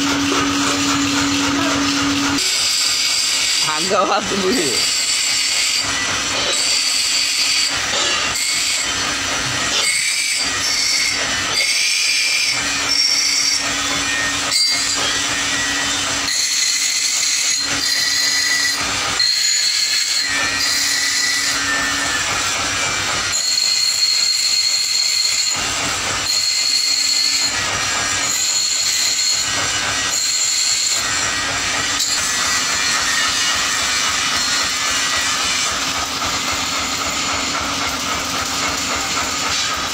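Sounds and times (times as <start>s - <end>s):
grinder motor humming: 0.0s - 39.9s
grinder screeching on steel: 0.0s - 39.9s.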